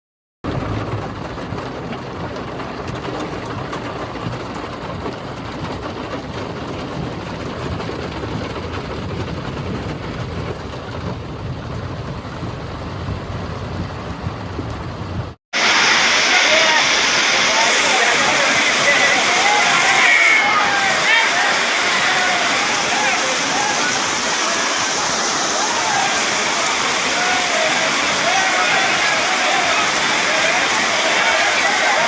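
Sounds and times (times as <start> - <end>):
heavy rain: 0.4 - 32.0
vehicle engines rumbling: 0.4 - 32.0
water noise from traffic: 0.4 - 32.0.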